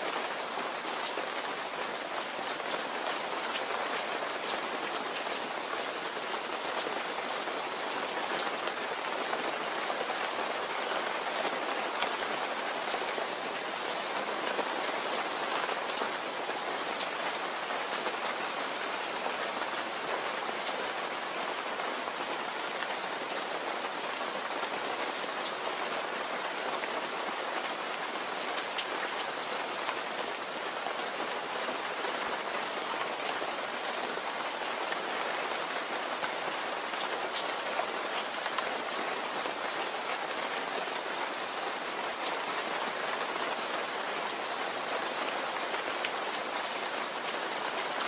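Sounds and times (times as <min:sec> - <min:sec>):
rain pattering on a surface: 0:00.0 - 0:48.0.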